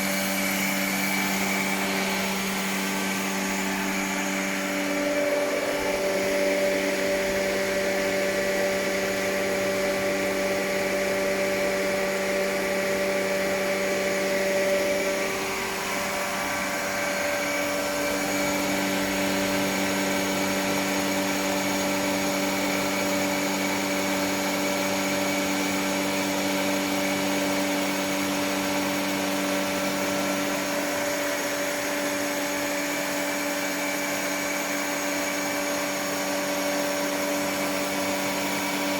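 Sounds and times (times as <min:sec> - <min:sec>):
air compressor humming: 0:00.0 - 0:38.9.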